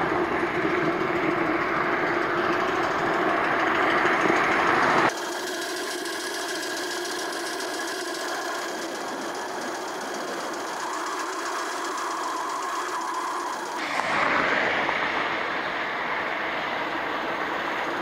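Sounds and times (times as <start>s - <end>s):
steam engine running: 0.0s - 18.0s.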